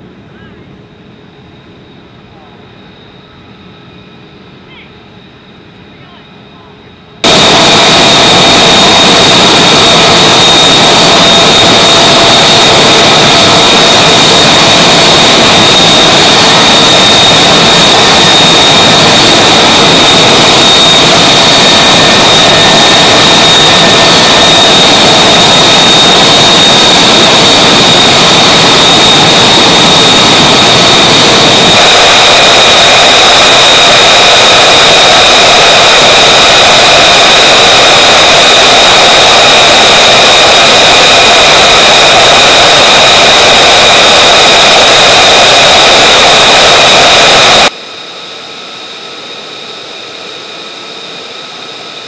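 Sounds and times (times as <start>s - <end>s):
jet engine running: 7.1s - 52.0s.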